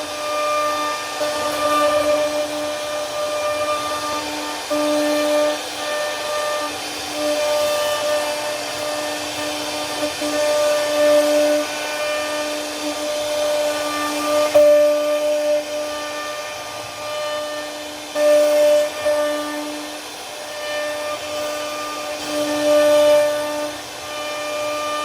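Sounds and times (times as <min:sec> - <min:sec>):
router spindle carving wood: 0:00.0 - 0:25.0.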